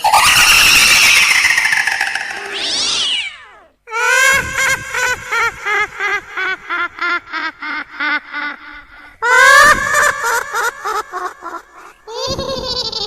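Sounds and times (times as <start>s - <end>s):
high-pitched cackling laugh: 0.0s - 3.0s, 4.0s - 13.0s.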